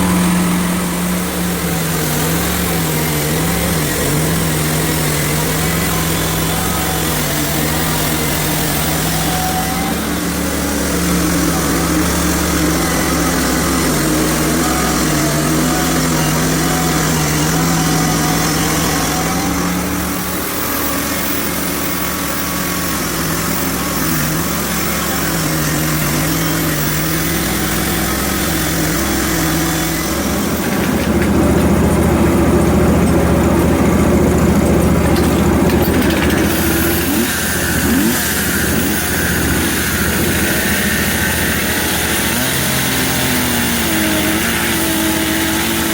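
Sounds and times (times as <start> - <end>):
sawmill gas engine running: 0.0 - 45.9.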